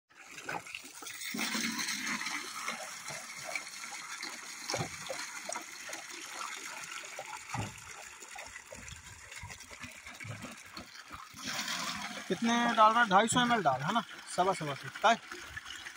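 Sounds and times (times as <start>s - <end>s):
water pouring into metal tin: 0.1s - 15.9s.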